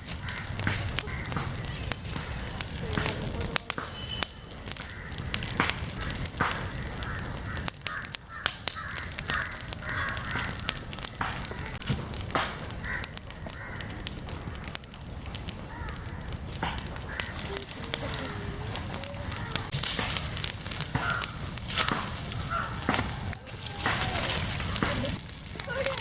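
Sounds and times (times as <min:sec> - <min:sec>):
crows cawing: 0:00.0 - 0:02.7, 0:04.5 - 0:11.8, 0:12.6 - 0:14.8, 0:15.5 - 0:25.2.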